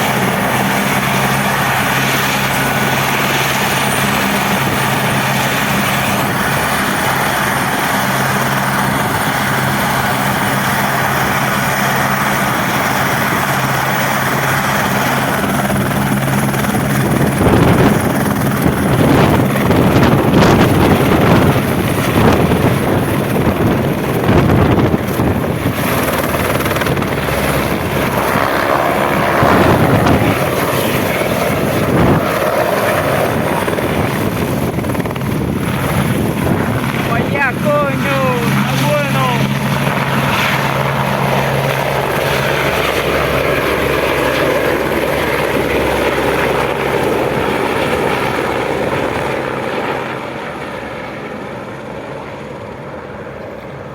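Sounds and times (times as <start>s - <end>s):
helicopter engine and rotors: 0.0s - 53.9s.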